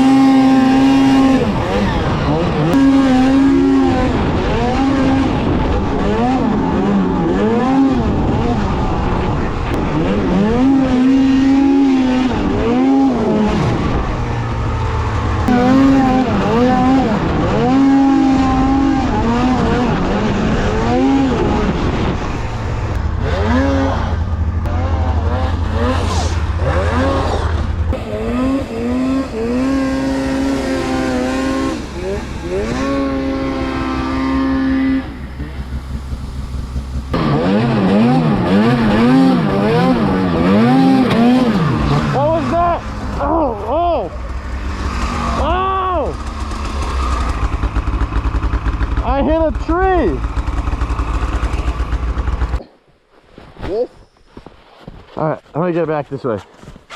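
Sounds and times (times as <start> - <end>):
snowmobile engine revving: 0.0 - 52.7.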